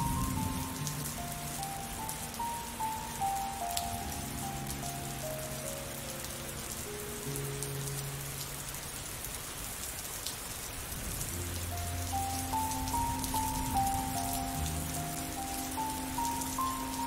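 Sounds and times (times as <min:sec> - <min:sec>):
soft slow background music: 0:00.0 - 0:09.2, 0:11.2 - 0:17.0
rain falling: 0:00.0 - 0:17.0.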